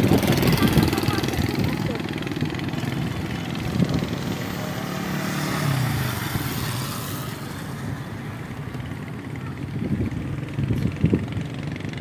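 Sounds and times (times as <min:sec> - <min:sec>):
passing vehicle engine: 0:00.0 - 0:12.0.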